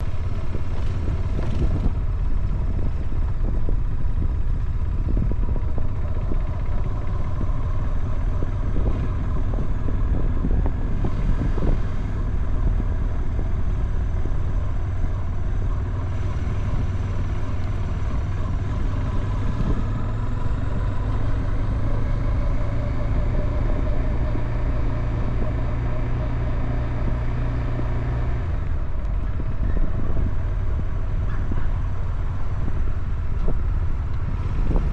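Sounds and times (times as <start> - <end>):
motorcycle engine rumble: 0.0 - 34.9.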